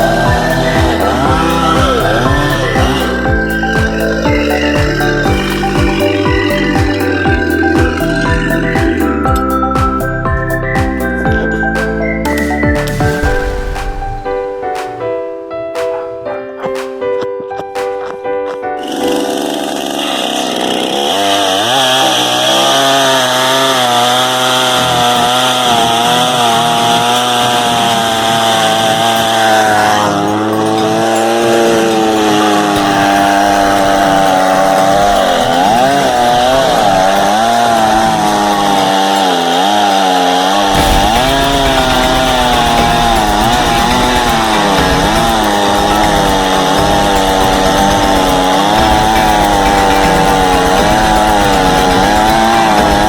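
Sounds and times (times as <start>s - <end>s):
chainsaw cutting a log: 0.0s - 14.2s, 18.6s - 53.0s.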